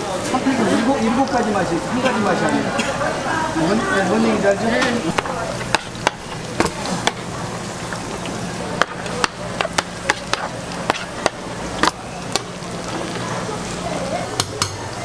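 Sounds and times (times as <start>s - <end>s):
deep-frying sizzle in oil: 0.0s - 15.0s.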